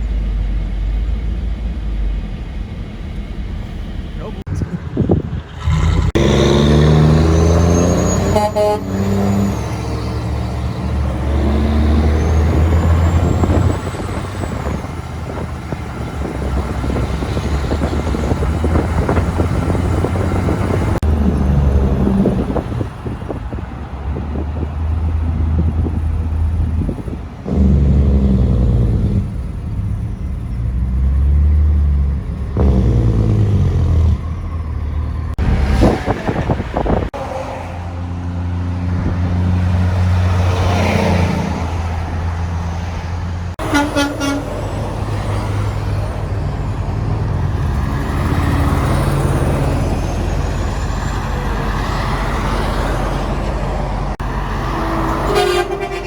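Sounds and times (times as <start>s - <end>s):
heavy trucks passing: 0.0s - 56.0s.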